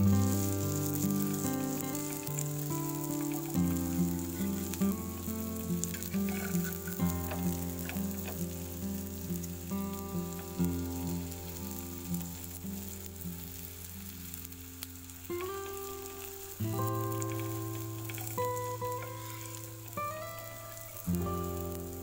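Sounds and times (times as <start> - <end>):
patties sizzling in butter: 0.0 - 22.0.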